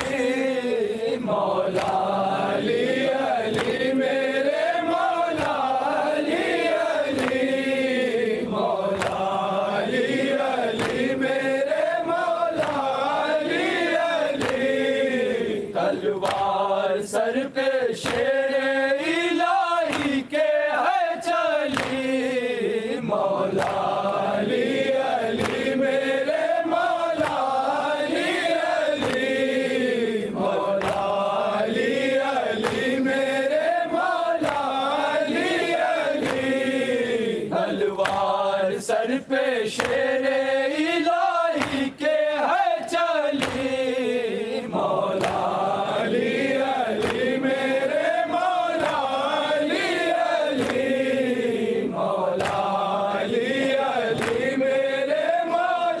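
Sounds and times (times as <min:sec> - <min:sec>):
men chanting a lament: 0:00.0 - 0:56.0.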